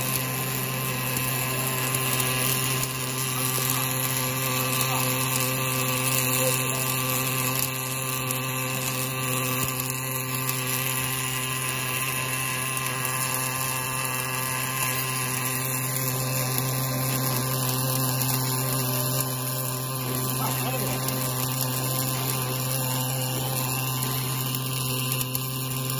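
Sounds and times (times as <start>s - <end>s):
arc welding hiss: 0.0s - 25.9s.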